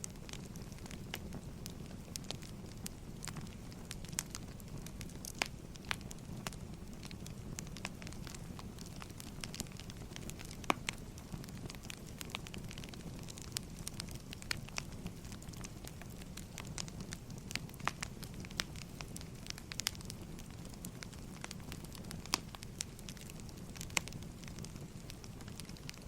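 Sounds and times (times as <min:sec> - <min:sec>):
fire low rumble: 0:00.0 - 0:26.0
firewood crackling and popping: 0:00.0 - 0:26.0.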